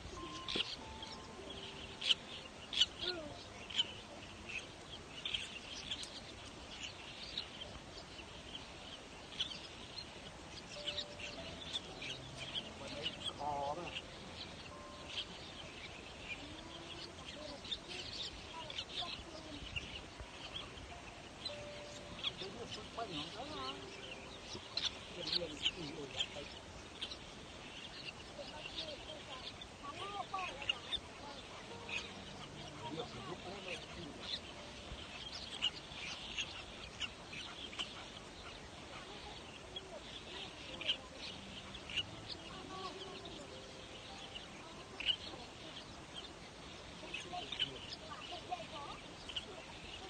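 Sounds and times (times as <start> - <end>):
birds chirping: 0.0 - 50.0
steady background hiss: 0.0 - 50.0.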